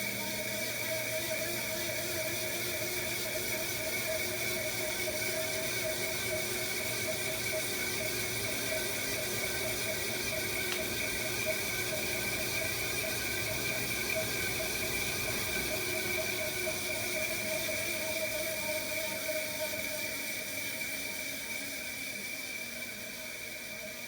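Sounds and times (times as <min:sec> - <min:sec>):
ventilation fan whirring: 0:00.0 - 0:24.0.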